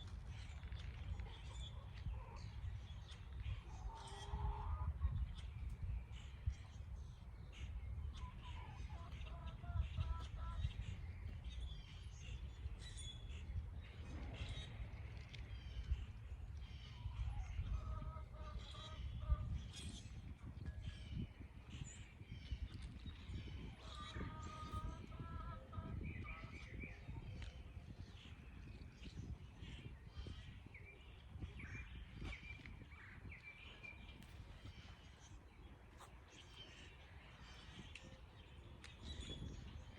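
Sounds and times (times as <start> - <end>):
birds chirping and calling: 0.3 - 39.9.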